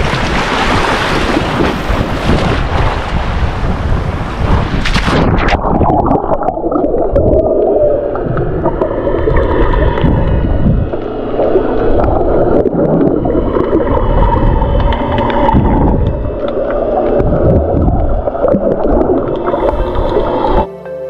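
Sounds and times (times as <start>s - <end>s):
muffled underwater rumble: 0.0s - 20.7s.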